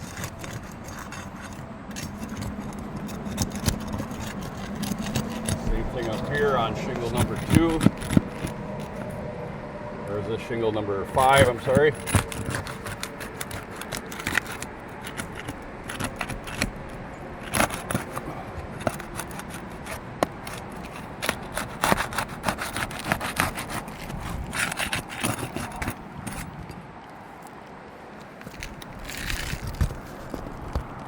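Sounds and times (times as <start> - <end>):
roof shingles scraping and tearing: 0.0 - 9.2, 11.1 - 27.5, 28.1 - 31.0.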